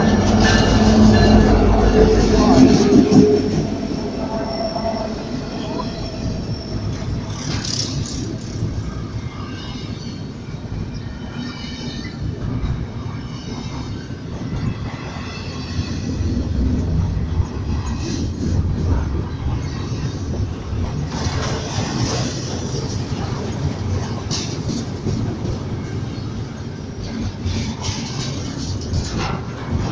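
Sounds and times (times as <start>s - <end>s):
freight train rumbling past: 0.0s - 29.9s.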